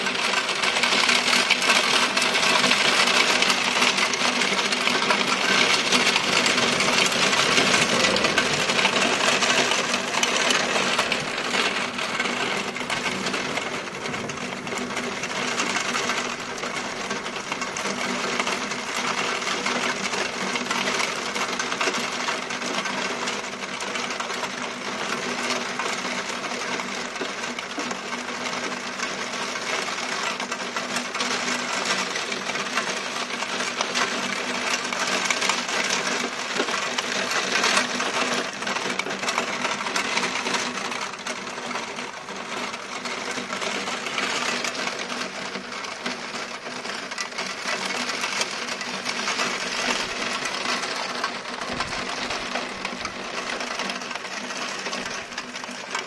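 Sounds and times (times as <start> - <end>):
raindrops pattering on window: 0.0 - 56.0.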